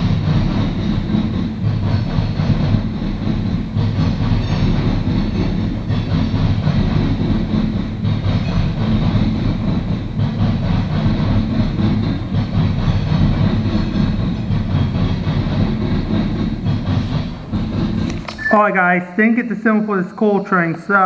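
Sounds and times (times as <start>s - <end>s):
train cars rolling on rails: 0.0s - 21.0s.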